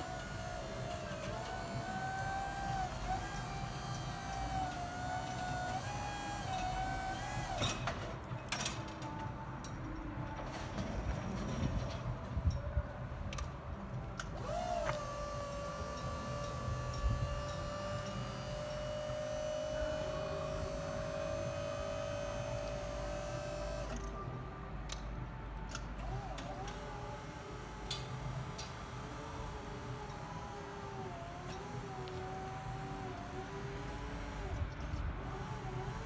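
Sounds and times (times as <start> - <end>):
hydraulic pump motor whine: 0.0 - 8.1, 14.1 - 36.0.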